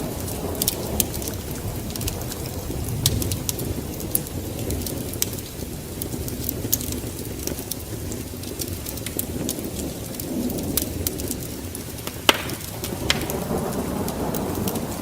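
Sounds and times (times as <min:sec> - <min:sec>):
low rumble of rain: 0:00.0 - 0:15.0
wood fire crackling and popping: 0:00.0 - 0:15.0.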